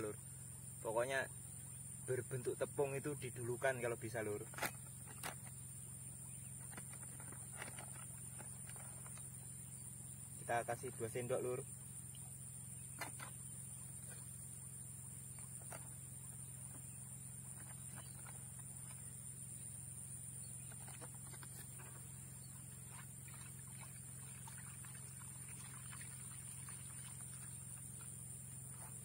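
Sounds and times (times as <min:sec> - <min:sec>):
insect chorus: 0:00.0 - 0:29.0.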